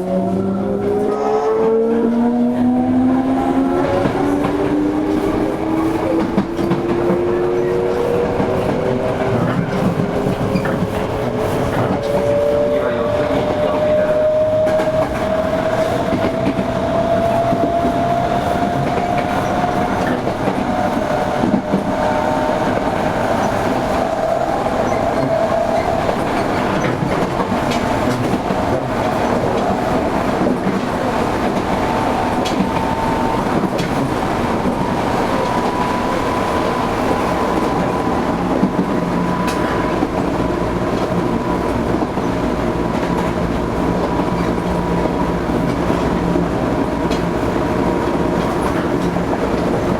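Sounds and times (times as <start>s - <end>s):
train wheel and track rumble: 0.0s - 49.9s
rail-joint clatter: 3.8s - 47.5s, 48.1s - 49.9s.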